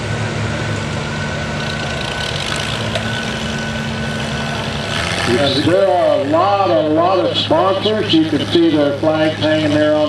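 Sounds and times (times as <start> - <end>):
faint high whine: 0.0 - 10.0
heavy engine idling: 0.0 - 10.0.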